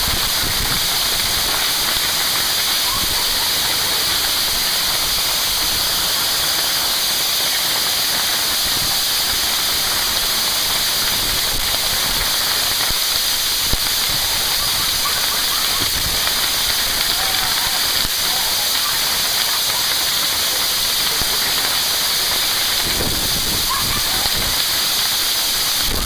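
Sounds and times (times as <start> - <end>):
hail pelting down: 0.0 - 26.0.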